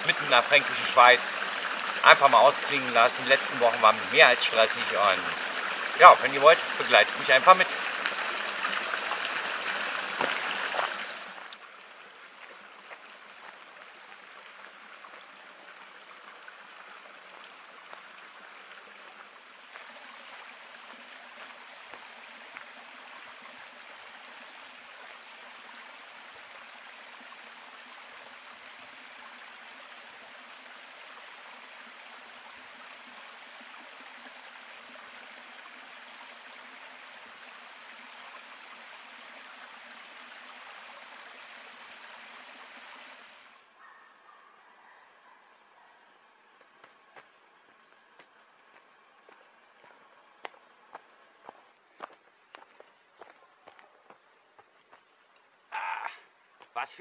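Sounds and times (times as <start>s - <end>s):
stream running over rocks: 0.0s - 43.8s, 45.5s - 57.0s.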